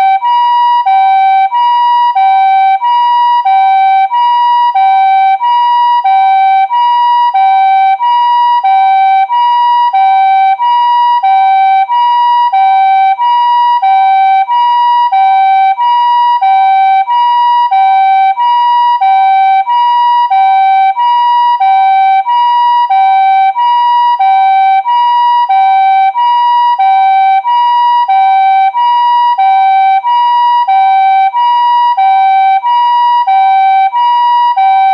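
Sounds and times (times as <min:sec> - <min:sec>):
two-tone ambulance siren: 0:00.0 - 0:34.9.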